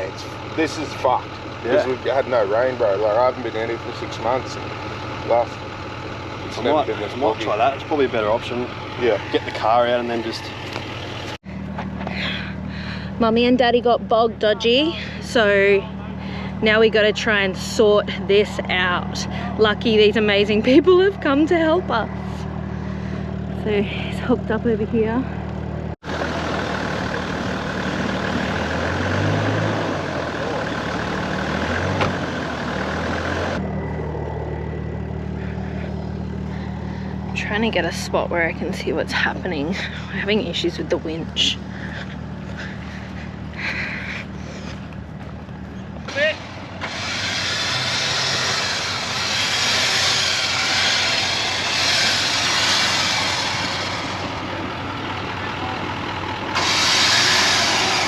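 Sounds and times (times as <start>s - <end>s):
engine idling: 0.0s - 58.0s
low hum: 0.0s - 58.0s.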